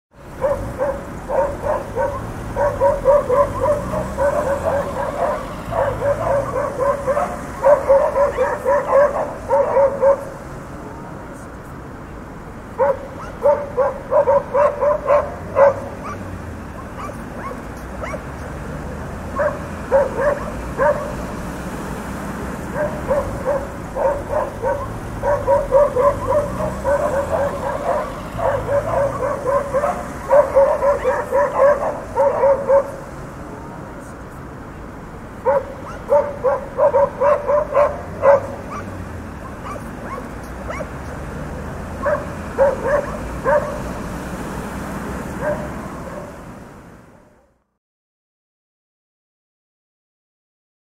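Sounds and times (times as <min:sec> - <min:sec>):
dogs barking: 0:00.2 - 0:10.6, 0:12.7 - 0:33.8, 0:35.3 - 0:46.6.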